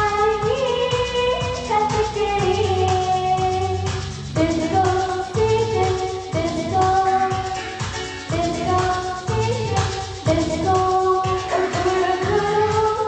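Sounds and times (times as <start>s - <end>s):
film song music with beat: 0.0s - 13.0s
girl singing into microphone: 0.0s - 13.0s.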